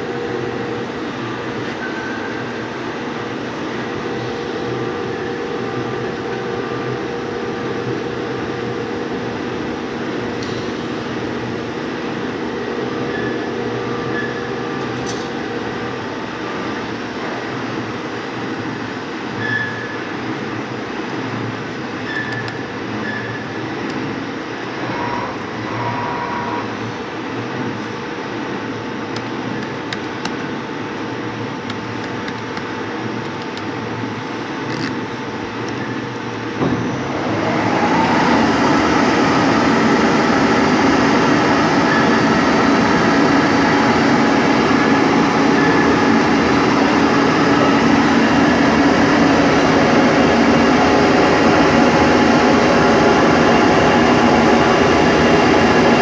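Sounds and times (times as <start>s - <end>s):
lathe whirring and humming: 0.0s - 56.0s.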